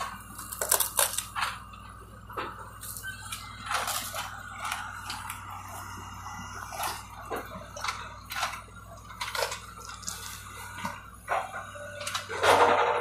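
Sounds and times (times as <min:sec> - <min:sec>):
wood cracking and splintering: 0:00.0 - 0:01.7, 0:02.8 - 0:05.7, 0:06.6 - 0:12.8
diesel excavator engine humming: 0:00.0 - 0:13.0.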